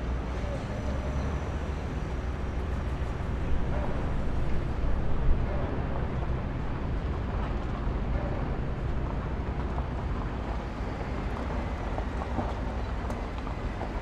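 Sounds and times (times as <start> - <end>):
heavy machinery rumble: 0.0 - 14.0.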